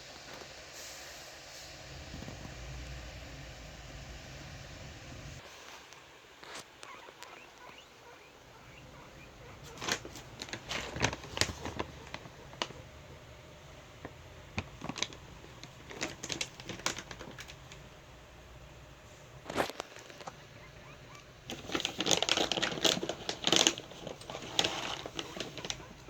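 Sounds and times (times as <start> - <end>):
guinea pigs crunching pellets: 1.8 - 18.8, 19.4 - 26.0.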